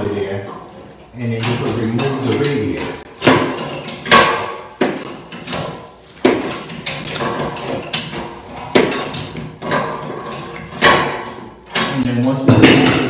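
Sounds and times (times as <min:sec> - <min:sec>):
wrench clanking on metal pipe: 0:01.3 - 0:13.0.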